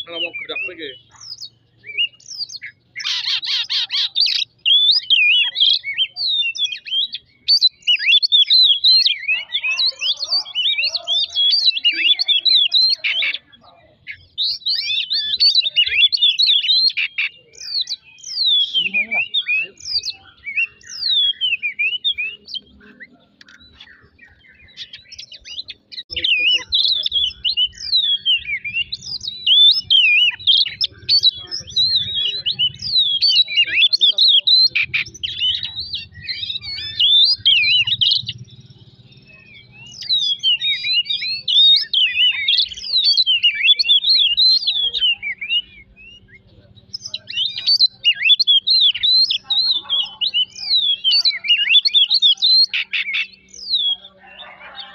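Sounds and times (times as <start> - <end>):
bird singing whistles and chirps: 0.0 - 54.9.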